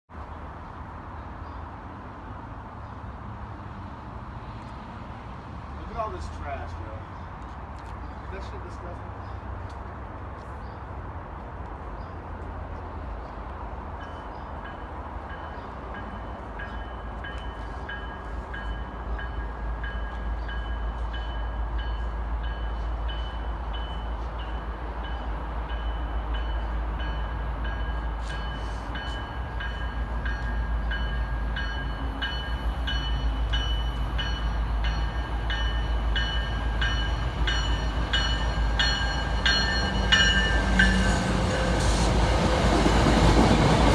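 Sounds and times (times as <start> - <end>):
train rumbling on rails: 0.2 - 43.9.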